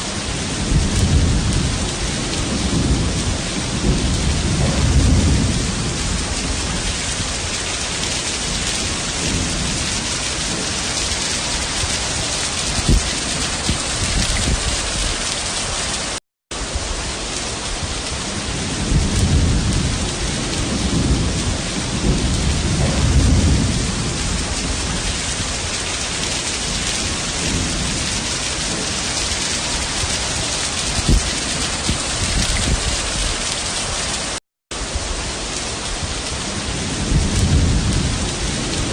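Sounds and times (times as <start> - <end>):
rolling thunder: 0.0 - 15.8, 16.6 - 38.9
heavy rain pouring: 0.0 - 38.9.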